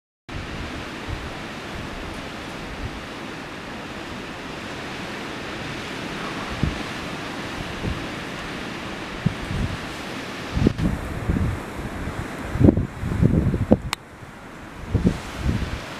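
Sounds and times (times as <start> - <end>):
wind blowing through grass: 0.3 - 15.9
wind buffeting microphone: 0.3 - 15.9.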